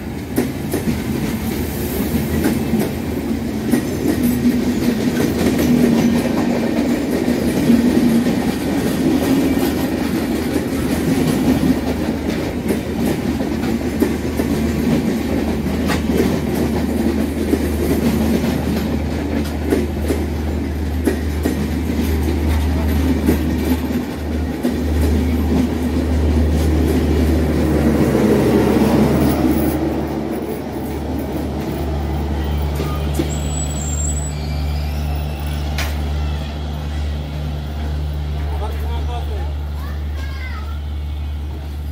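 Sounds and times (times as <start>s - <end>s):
wheels clicking over rail joints: 0.0s - 34.2s
train rumble and hum: 0.0s - 41.9s.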